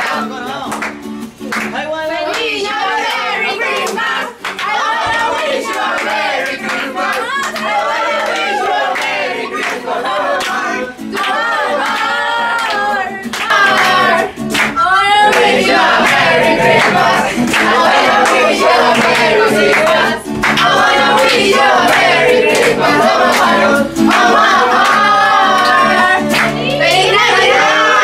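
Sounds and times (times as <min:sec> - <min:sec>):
group singing: 0:00.0 - 0:01.0, 0:01.7 - 0:28.0
hand clapping: 0:00.0 - 0:27.3
music: 0:00.0 - 0:28.0.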